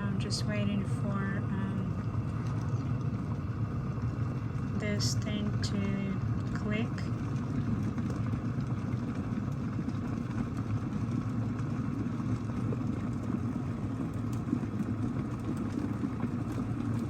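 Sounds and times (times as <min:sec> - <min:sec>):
water boiling in kettle: 0:00.0 - 0:17.0.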